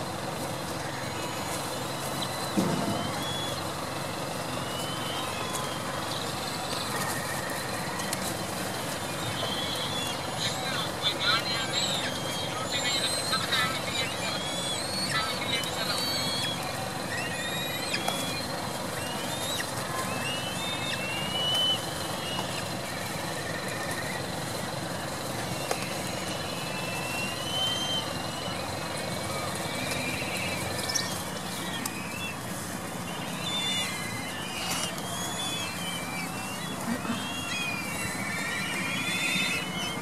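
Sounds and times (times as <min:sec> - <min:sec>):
engine and traffic noise: 0:00.0 - 0:40.0
kites calling whistles: 0:00.0 - 0:40.0
kite trilled call: 0:00.9 - 0:40.0.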